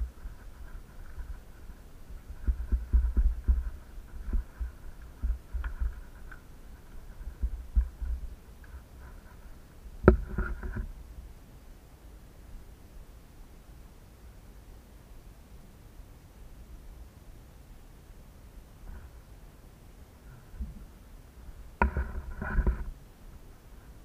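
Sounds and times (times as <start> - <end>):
faint steady high hum: 0.0 - 24.0.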